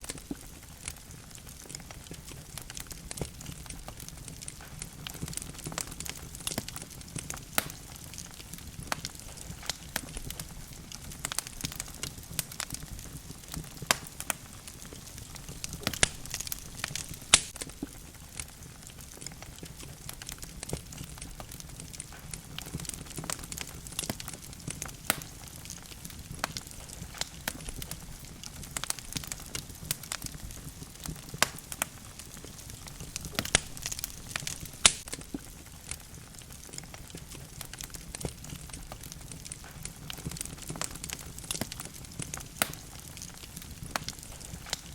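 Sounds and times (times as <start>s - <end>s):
low rumble of flames: 0.0s - 44.9s
wood logs crackling and popping: 0.0s - 44.9s.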